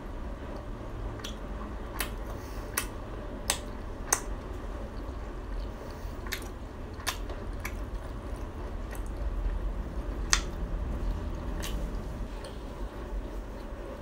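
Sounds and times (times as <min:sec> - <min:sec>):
low steady hum: 0:00.0 - 0:14.0
closed-mouth chewing: 0:00.5 - 0:14.0.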